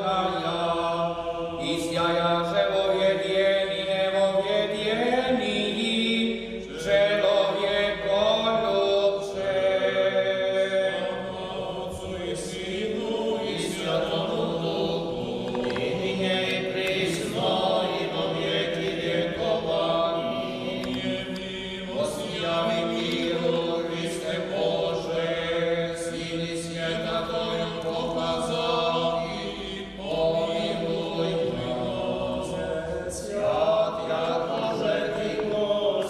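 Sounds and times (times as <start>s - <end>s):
men chanting together: 0.0s - 36.0s.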